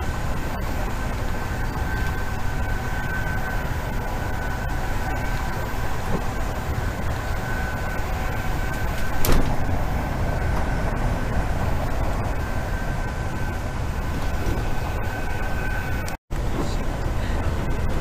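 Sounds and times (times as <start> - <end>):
faint steady whine: 0.0 - 18.0
train rumble: 0.0 - 18.0.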